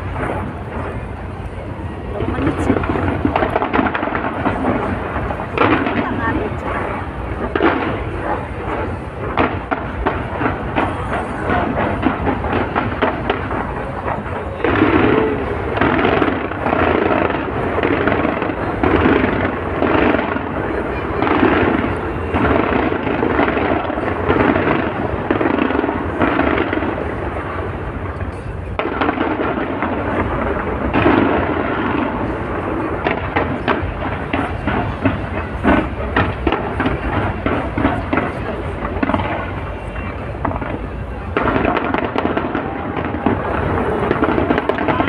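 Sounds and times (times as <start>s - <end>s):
crowd voices: 0.0s - 45.0s
fireworks bursting with loud bangs: 0.0s - 45.0s
fireworks crackling: 0.0s - 45.0s.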